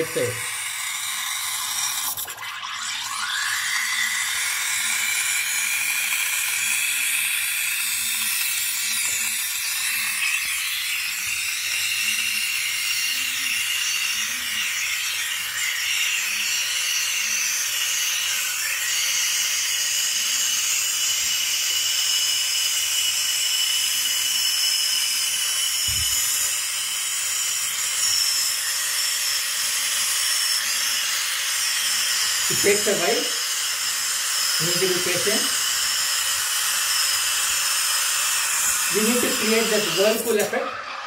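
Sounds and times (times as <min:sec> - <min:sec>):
steam wand hissing into milk: 0:00.0 - 0:41.0.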